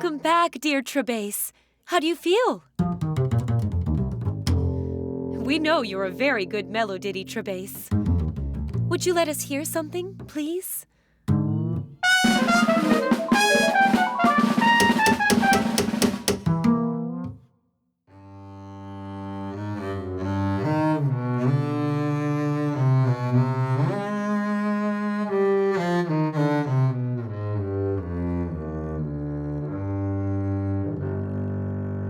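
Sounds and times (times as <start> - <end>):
bowed double bass melody: 2.8 - 10.3, 11.3 - 15.8, 18.3 - 32.0.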